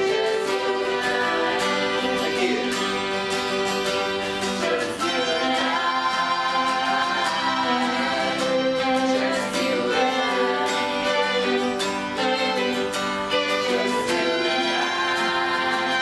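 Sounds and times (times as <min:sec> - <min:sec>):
guitar: 0:00.0 - 0:16.0
held string notes: 0:00.0 - 0:16.0.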